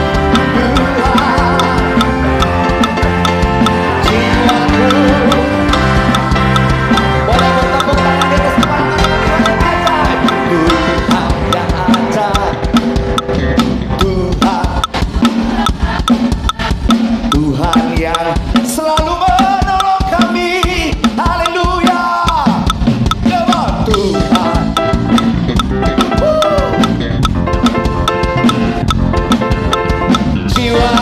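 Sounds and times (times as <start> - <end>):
drum kit beat: 0.0 - 31.0
live praise band music: 0.0 - 31.0
sliding lead melody: 0.0 - 31.0.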